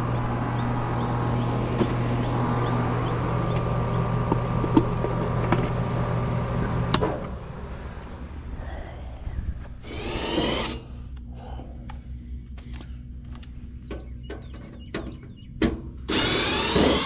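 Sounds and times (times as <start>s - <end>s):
power driver whining: 0.0s - 7.8s, 9.5s - 17.0s.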